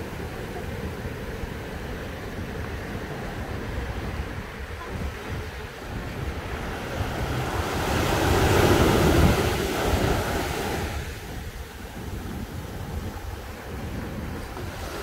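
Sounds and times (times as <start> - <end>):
small waves washing on a beach: 0.0 - 15.0.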